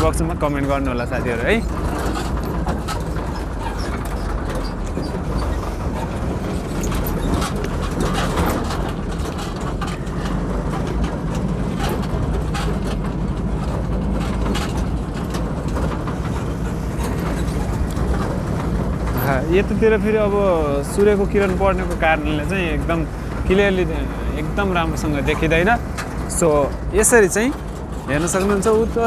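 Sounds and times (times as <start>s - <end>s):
truck body rattling: 0.0s - 29.0s
truck engine and road rumble: 0.0s - 29.0s.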